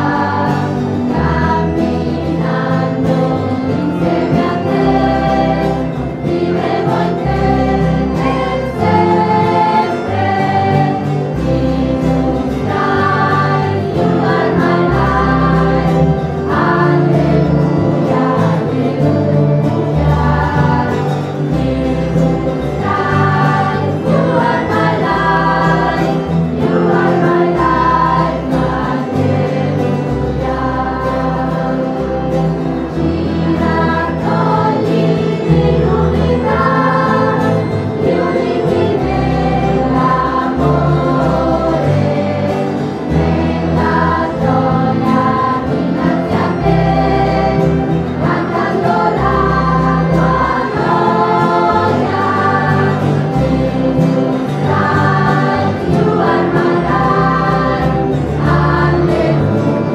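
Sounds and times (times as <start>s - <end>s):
choir singing a hymn: 0.0s - 59.9s
instrumental accompaniment: 0.0s - 59.9s.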